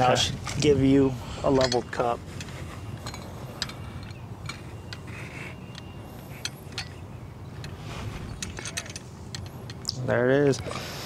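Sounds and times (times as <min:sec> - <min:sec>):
metal tools clicking and clinking: 0:01.4 - 0:10.8.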